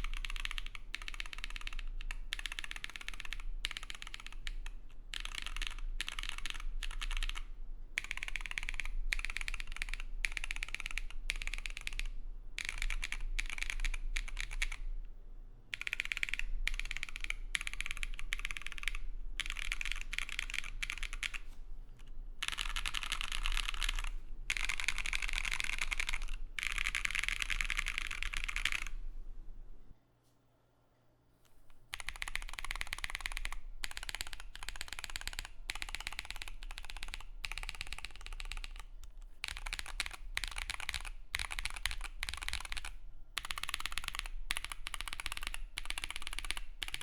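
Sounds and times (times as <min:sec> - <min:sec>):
clacky keyboard typing: 0:00.0 - 0:14.8, 0:15.7 - 0:21.5, 0:22.4 - 0:29.0, 0:31.9 - 0:47.0.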